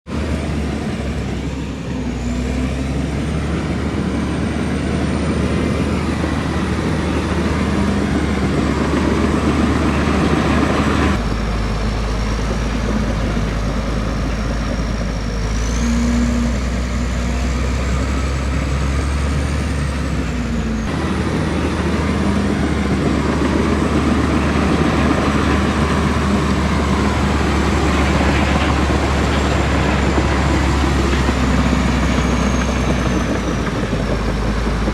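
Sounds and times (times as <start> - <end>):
bulldozer diesel engine rumbling: 0.1 - 34.9.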